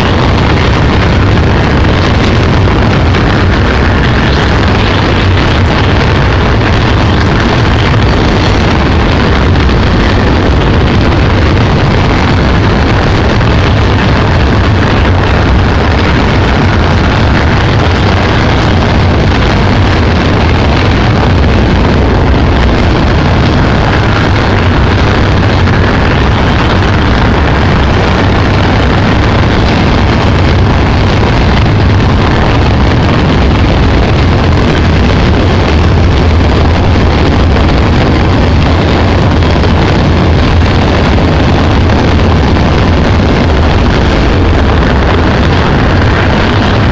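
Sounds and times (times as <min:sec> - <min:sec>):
wind on microphone: 0:00.0 - 0:46.9.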